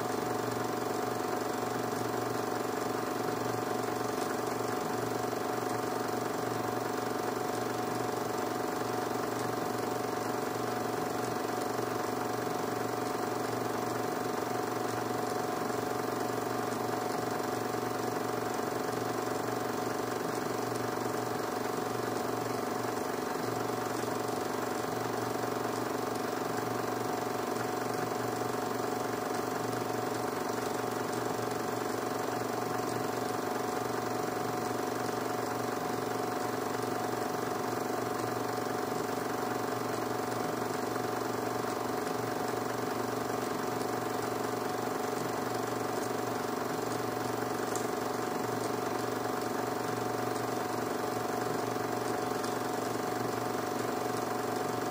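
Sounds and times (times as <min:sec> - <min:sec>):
film projector whirring: 0:00.0 - 0:54.9.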